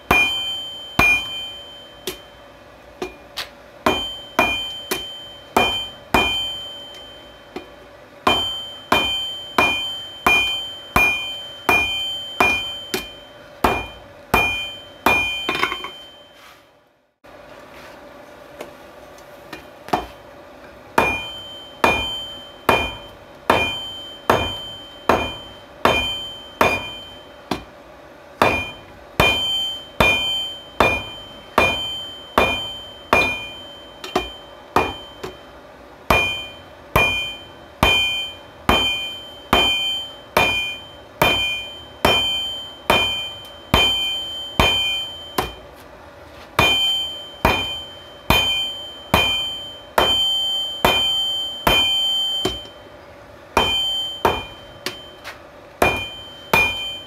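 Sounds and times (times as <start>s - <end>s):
hammer ringing on steel anvil: 0.0s - 2.4s, 3.0s - 16.4s, 21.0s - 27.7s, 28.4s - 45.7s, 46.6s - 52.9s, 53.6s - 57.0s.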